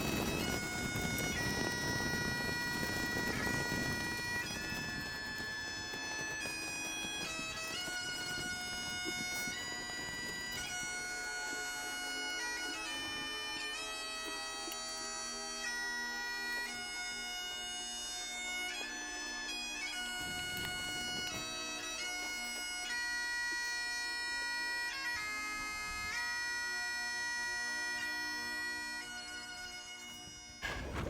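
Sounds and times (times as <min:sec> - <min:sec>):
bagpipe drone: 0:00.0 - 0:31.0
bagpipe melody: 0:00.0 - 0:31.0.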